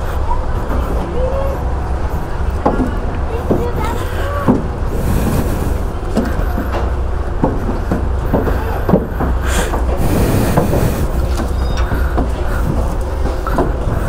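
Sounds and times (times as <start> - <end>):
low vehicle rumble: 0.0 - 14.0
light knocks and rattles: 1.7 - 5.4, 6.0 - 14.0.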